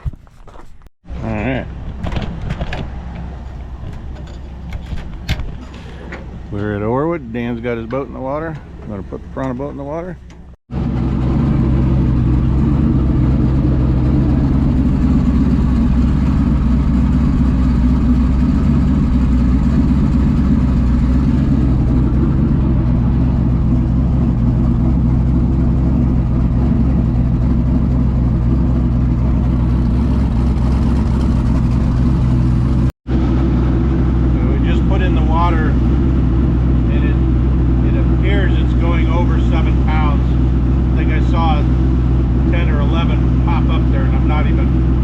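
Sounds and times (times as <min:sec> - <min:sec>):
boat engine droning: 0:05.6 - 0:45.0.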